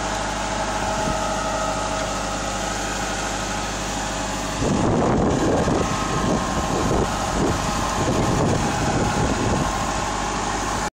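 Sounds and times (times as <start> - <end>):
tractor engine running: 0.0 - 10.9.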